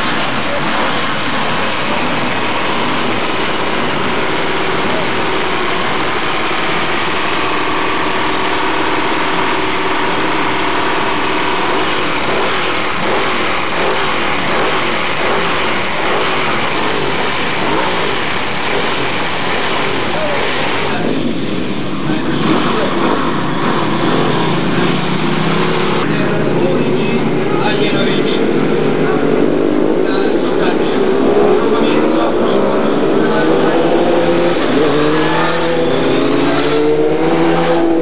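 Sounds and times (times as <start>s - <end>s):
motorcycle engines idling and revving: 0.0s - 38.0s.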